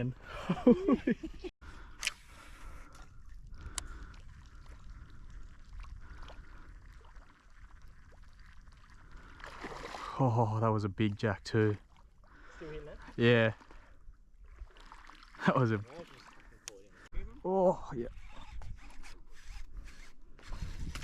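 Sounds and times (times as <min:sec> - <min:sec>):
creek water trickling: 0:01.6 - 0:21.0.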